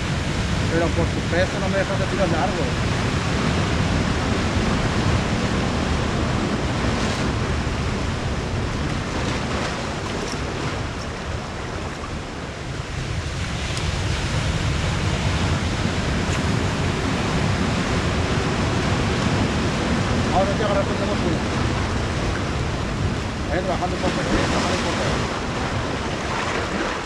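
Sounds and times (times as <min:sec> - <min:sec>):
surf breaking on rocky shore: 0:00.0 - 0:27.0.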